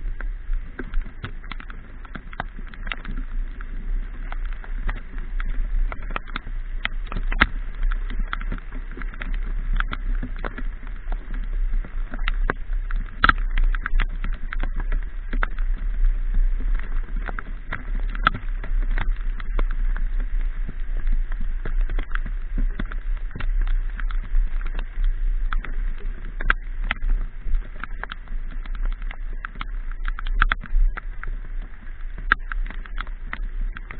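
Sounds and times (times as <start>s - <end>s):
raindrops tapping on camera: 0.0s - 33.9s
wind and road rumble: 0.0s - 33.9s.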